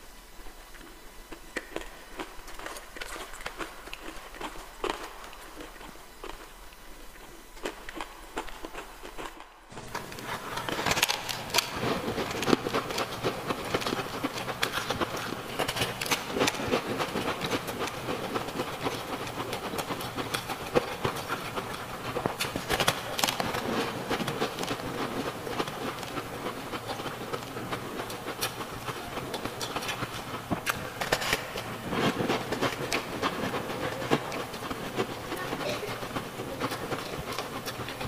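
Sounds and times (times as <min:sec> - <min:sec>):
ice being chewed: 0:00.7 - 0:38.0.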